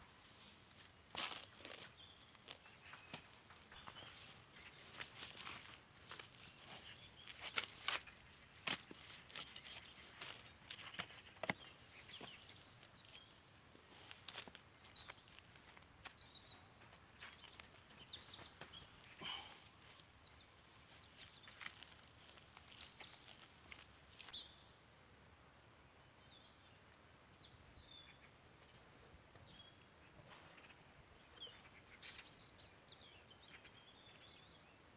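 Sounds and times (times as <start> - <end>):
faint birds chirping: 0.0 - 34.9.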